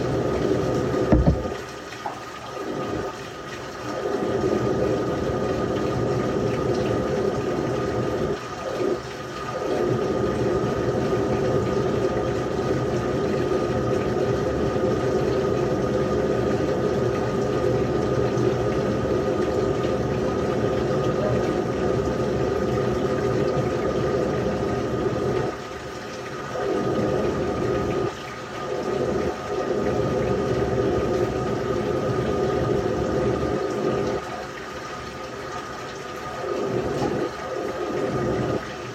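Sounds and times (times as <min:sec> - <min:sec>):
faint steady hum: 0:00.0 - 0:38.9
water rushing into washing machine: 0:00.0 - 0:38.9.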